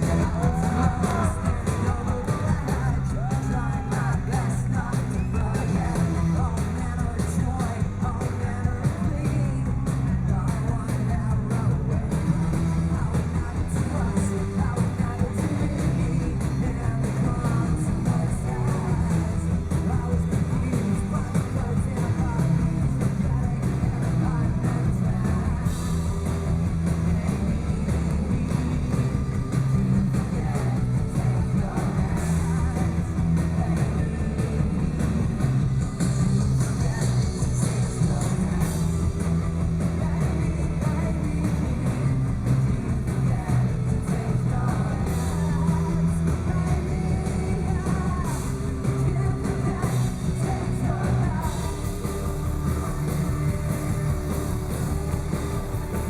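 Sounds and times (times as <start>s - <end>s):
bass guitar: 0.0s - 56.0s
distorted electric guitars: 0.0s - 56.0s
drums: 0.0s - 56.0s.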